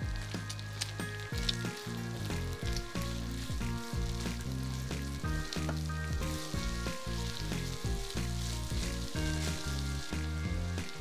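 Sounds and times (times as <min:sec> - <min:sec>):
background music: 0:00.0 - 0:11.0
meat sizzling in a pan: 0:00.0 - 0:11.0.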